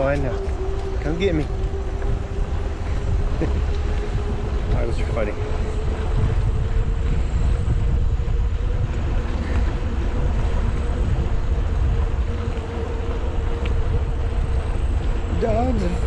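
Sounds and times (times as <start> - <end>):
faint steady hum: 0.0 - 16.0
wind rushing over microphone: 0.0 - 16.0.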